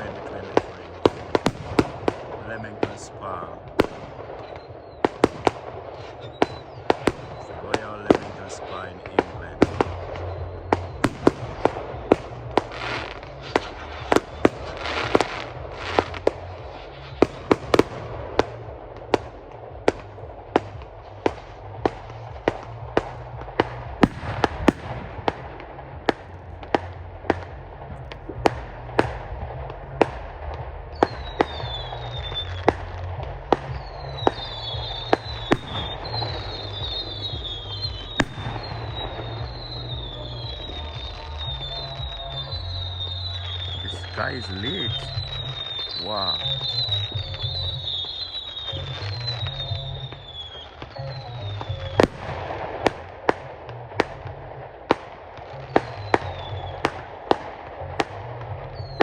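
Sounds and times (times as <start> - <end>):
firework bangs: 0.0 - 59.0
firework crackling rumble: 0.0 - 59.0.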